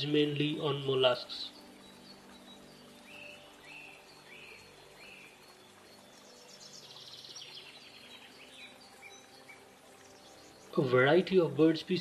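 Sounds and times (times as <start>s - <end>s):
faint songbird chirps: 0.0s - 12.0s.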